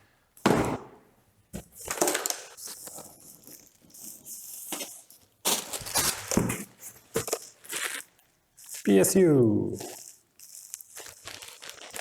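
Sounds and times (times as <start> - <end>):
plastic and cardboard rustling: 1.5 - 12.0.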